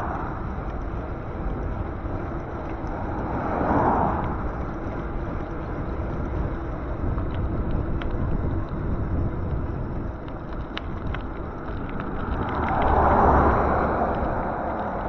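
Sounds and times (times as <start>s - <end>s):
faint light ticks: 0.0s - 15.0s
road and traffic noise: 0.0s - 15.0s
wind rushing over microphone: 0.0s - 15.0s.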